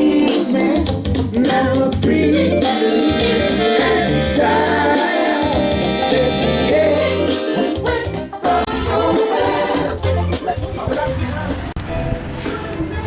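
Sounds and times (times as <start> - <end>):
song with band over loudspeaker: 0.0 - 11.7.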